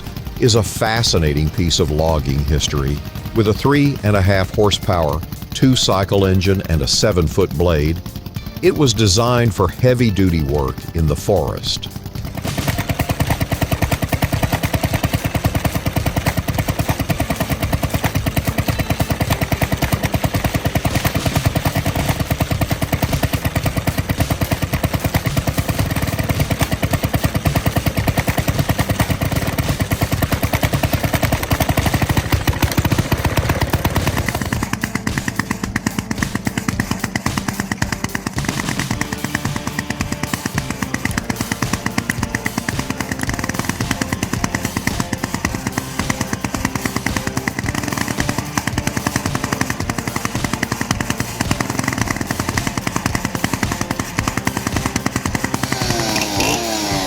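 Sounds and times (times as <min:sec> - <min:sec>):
two-cycle engine popping: 0:00.0 - 0:57.0.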